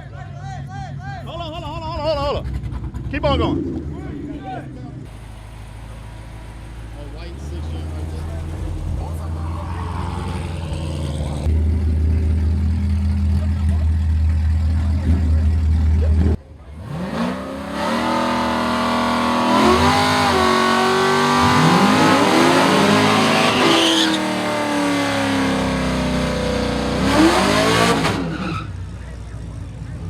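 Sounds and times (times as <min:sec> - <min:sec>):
car engine idling: 0:00.0 - 0:23.3, 0:28.5 - 0:30.0
race car engines revving: 0:01.6 - 0:30.0.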